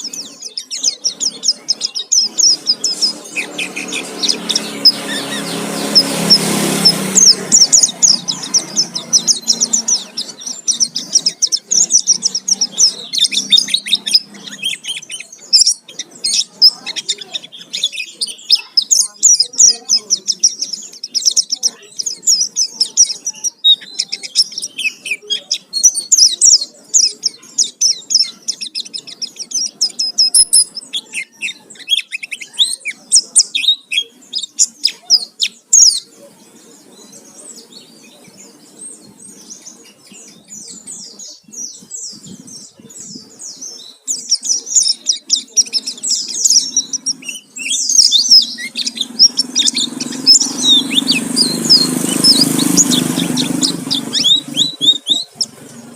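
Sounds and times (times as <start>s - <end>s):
bird twittering song: 0.0s - 55.9s.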